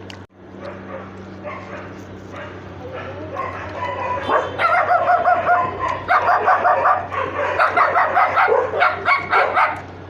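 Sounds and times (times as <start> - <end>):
dog barking in high yips: 0.6 - 9.8.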